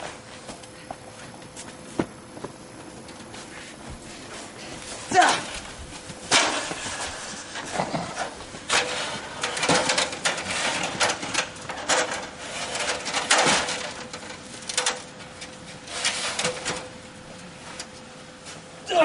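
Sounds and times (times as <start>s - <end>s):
metal ladder clattering and scraping: 3.0s - 18.6s.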